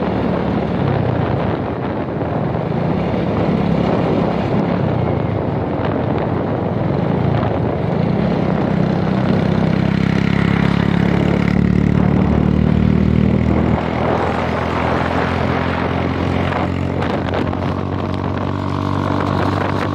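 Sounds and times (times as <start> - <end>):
motorcycle engine running: 0.0 - 19.9
wind noise on microphone: 0.0 - 19.9.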